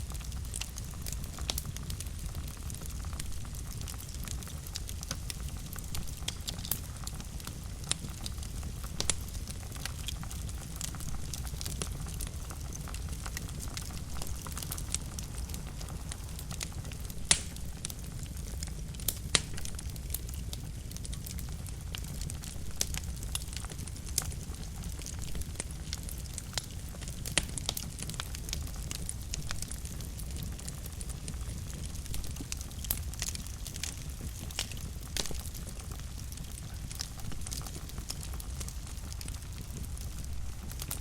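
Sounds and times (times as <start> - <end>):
wood fire crackling: 0.0 - 41.0
sharp fire pops: 0.2 - 21.4, 22.0 - 41.0.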